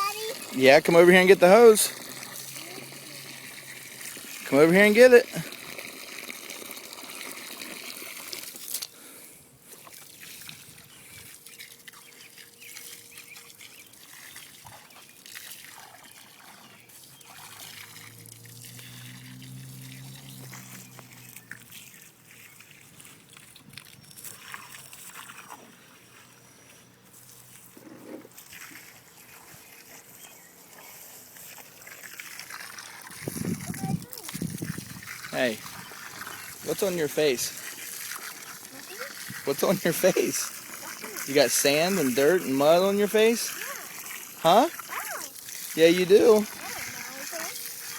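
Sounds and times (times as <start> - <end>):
hose water splashing: 0.0 - 47.9.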